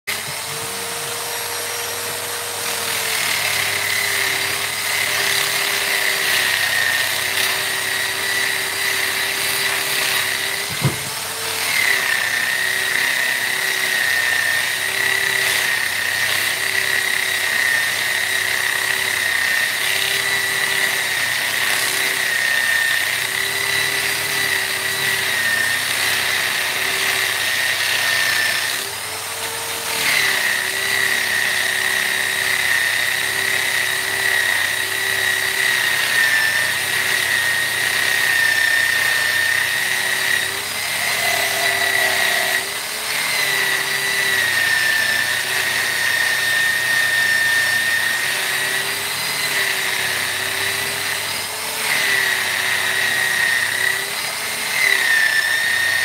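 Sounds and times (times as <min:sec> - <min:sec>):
rotary power tool whining: 0:00.0 - 0:56.0.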